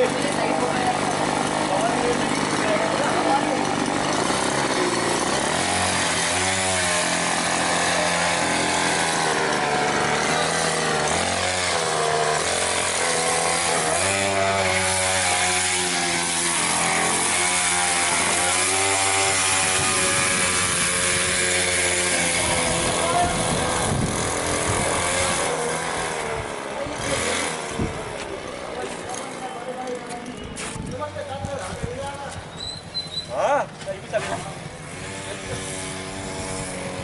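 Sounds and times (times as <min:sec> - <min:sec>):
small petrol engine revving: 0:00.0 - 0:30.2, 0:34.2 - 0:37.0.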